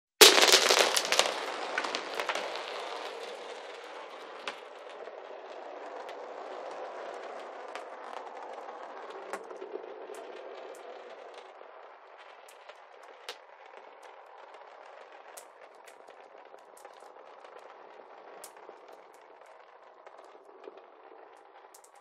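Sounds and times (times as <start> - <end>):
marbles clattering on hard surface: 0.2 - 22.0
marbles rolling: 0.2 - 22.0.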